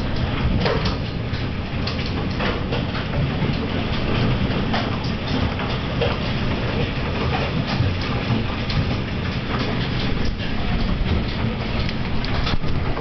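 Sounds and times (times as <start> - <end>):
hail clattering: 0.0 - 13.0.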